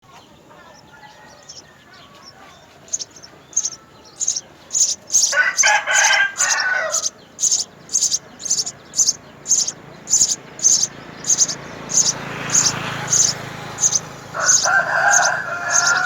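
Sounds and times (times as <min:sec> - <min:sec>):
sparrows chirping: 0:00.0 - 0:16.0
rooster crowing: 0:00.6 - 0:08.7, 0:09.5 - 0:16.0.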